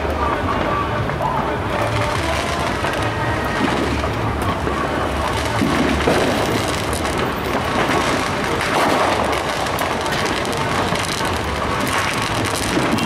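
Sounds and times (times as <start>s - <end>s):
distant fireworks popping and booming: 0.0s - 13.0s.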